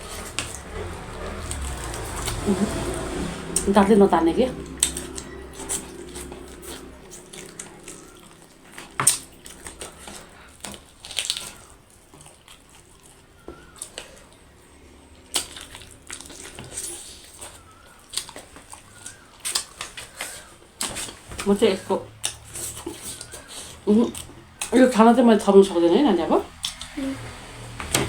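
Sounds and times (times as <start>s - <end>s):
chewing and mouth noises: 0.0s - 25.6s.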